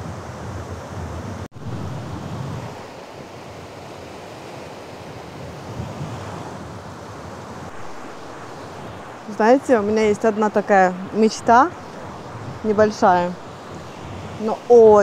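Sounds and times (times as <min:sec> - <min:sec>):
sea surf washing: 0:00.0 - 0:15.0
wind buffeting microphone: 0:00.0 - 0:15.0.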